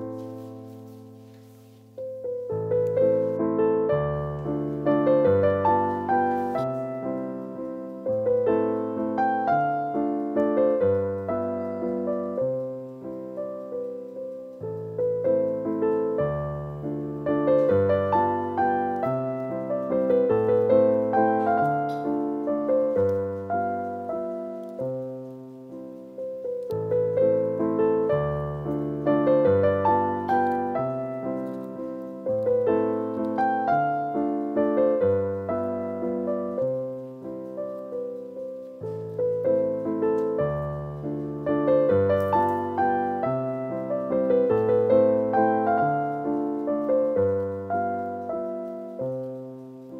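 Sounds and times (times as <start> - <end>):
gentle piano music: 0.0 - 49.9.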